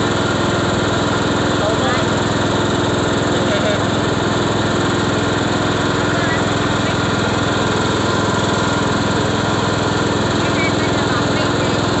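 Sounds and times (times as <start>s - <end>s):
riding lawn mower engine: 0.0s - 12.0s.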